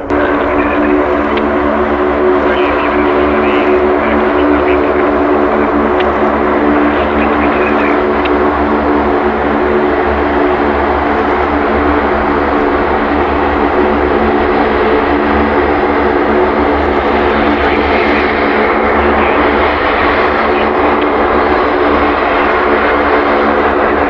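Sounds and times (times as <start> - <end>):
high engine whine: 0.0 - 24.0
turboprop aircraft humming: 0.0 - 24.0.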